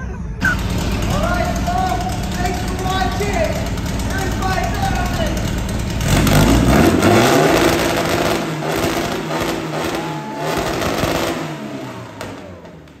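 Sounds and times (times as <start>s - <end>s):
car engine revving high: 0.4s - 13.0s.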